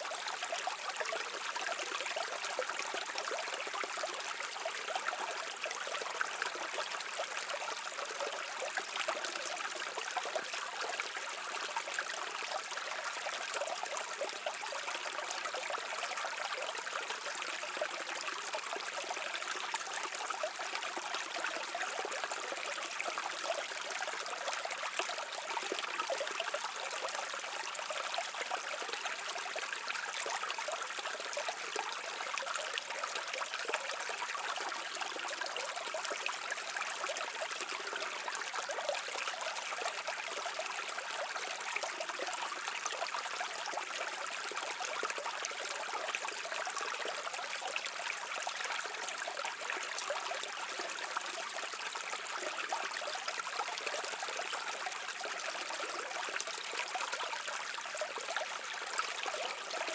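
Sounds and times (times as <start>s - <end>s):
brook flowing: 0.0s - 59.9s.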